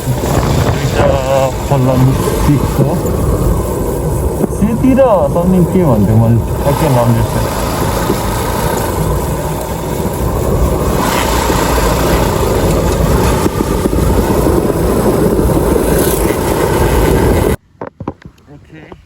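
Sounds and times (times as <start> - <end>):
motorcycle engine running: 0.0 - 17.6
wind rushing over microphone: 0.0 - 19.0.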